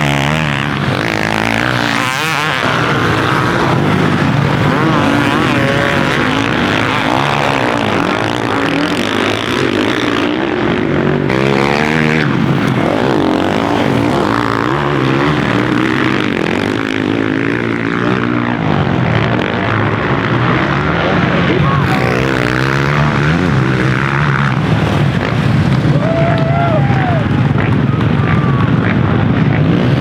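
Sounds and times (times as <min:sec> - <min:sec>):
motocross engines revving: 0:00.0 - 0:30.0.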